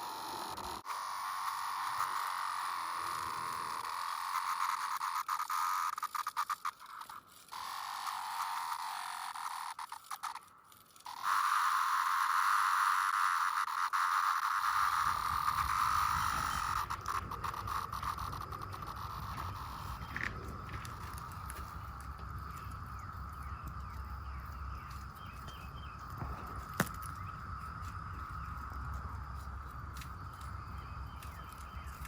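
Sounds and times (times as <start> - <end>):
cicadas droning: 0.0 - 32.0.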